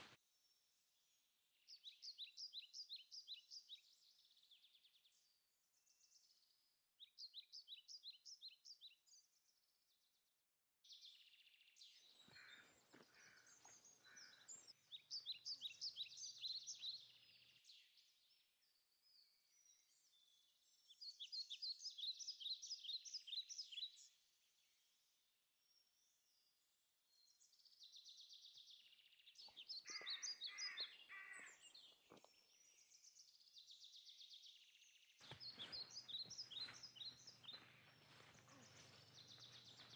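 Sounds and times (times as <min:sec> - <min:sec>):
songbirds trilling and chirping: 0:00.0 - 0:09.6, 0:10.9 - 0:39.9.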